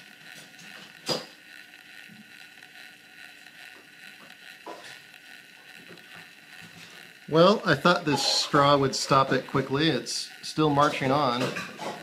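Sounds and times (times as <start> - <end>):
straw rubbing on spinning rotor: 0.0 - 12.0.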